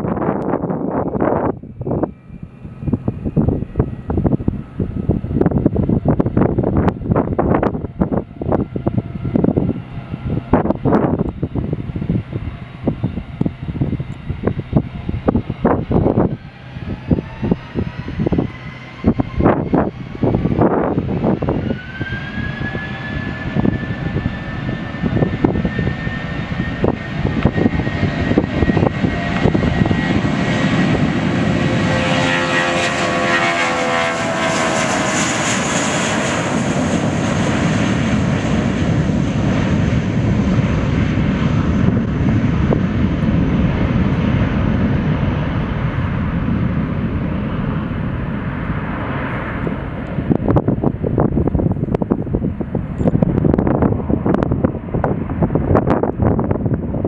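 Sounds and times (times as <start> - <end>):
jet engine roar with whine: 0.0 - 57.0.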